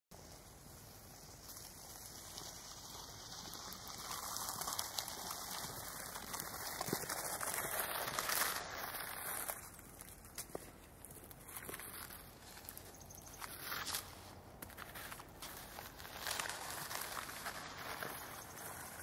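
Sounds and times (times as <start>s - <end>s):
wheels rolling on rails: 0.2s - 19.0s.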